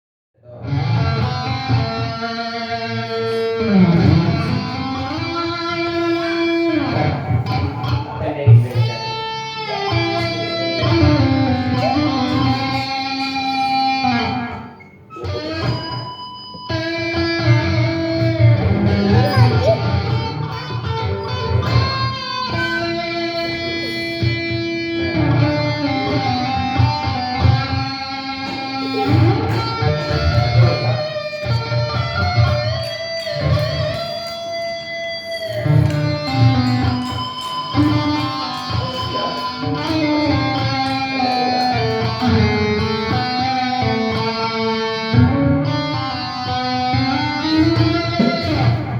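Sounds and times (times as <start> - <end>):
rock guitar lead melody: 0.5 - 48.9.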